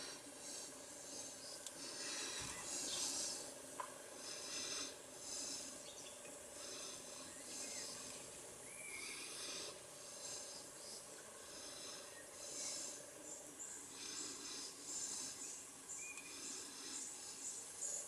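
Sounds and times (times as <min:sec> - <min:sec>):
faint hiss: 0:00.0 - 0:18.0.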